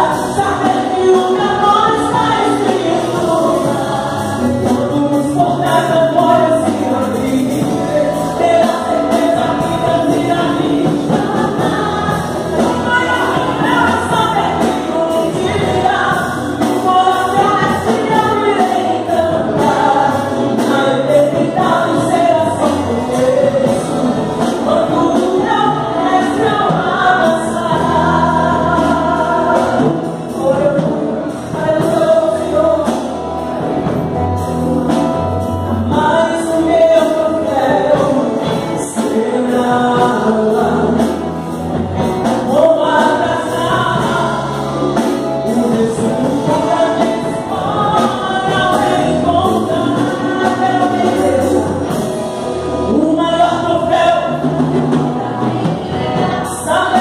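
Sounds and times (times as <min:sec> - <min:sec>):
backing singers: 0:00.0 - 0:57.0
band playing gospel music: 0:00.0 - 0:57.0
woman singing into microphone: 0:00.0 - 0:57.0.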